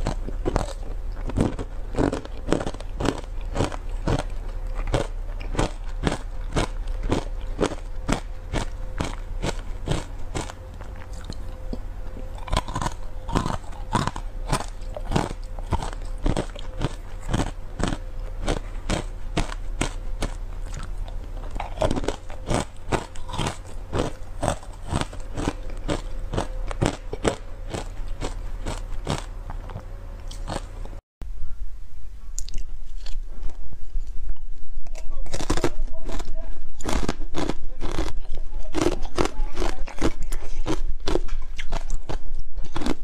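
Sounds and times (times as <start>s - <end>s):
ice cubes crunching while chewed: 0.0s - 30.7s, 35.2s - 43.0s.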